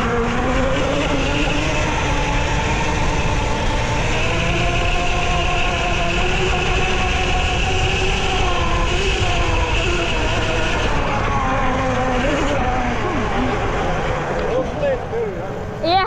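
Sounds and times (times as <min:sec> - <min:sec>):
dirt bike motor running: 0:00.0 - 0:16.0.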